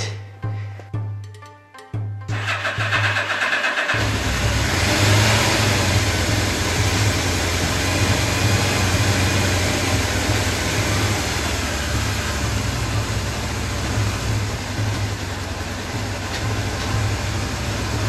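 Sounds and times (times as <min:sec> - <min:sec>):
motorcycle engine starting and running: 0:02.3 - 0:18.0.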